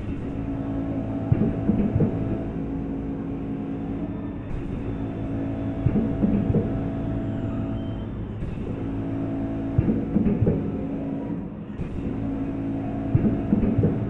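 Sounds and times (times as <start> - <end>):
machine clacks: 0.0 - 14.0.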